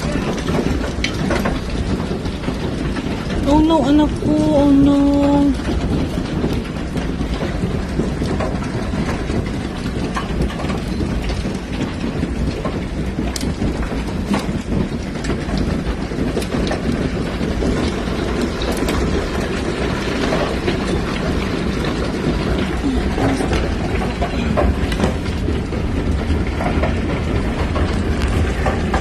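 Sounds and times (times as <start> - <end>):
hail clattering: 0.0 - 29.0.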